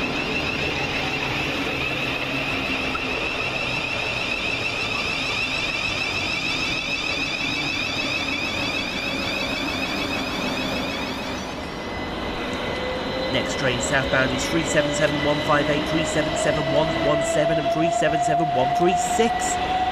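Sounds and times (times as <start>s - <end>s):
electric train running: 0.0s - 19.9s.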